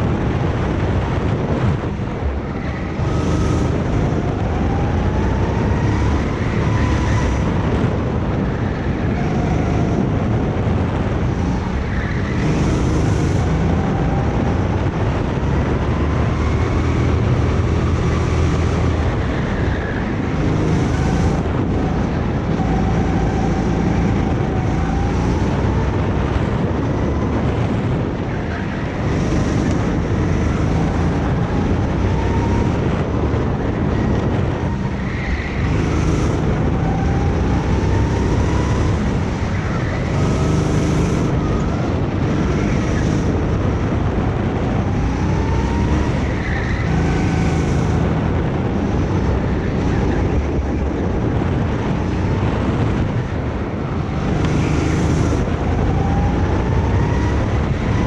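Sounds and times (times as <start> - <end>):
go-kart engine running: 0.0 - 58.0
wind buffeting microphone: 0.0 - 58.0.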